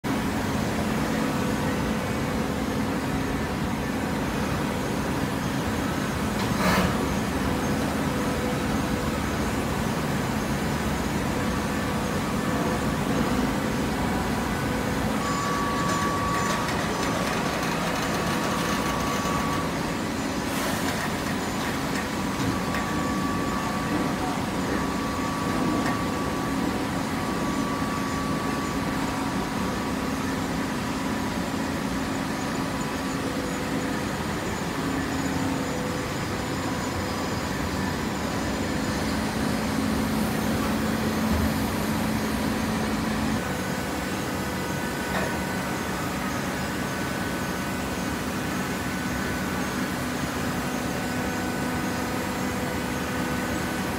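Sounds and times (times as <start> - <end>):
hydraulic baler machine hum: 0.1 - 53.9.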